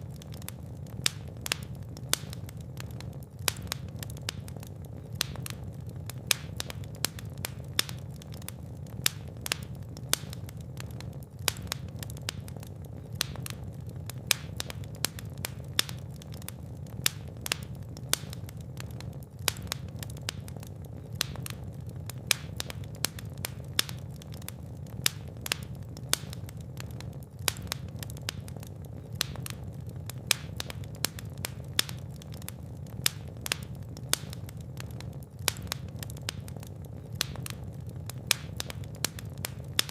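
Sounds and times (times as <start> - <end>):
fire crackling: 0.0 - 39.9
fire popping: 0.0 - 39.9
flames rumbling: 0.0 - 39.9.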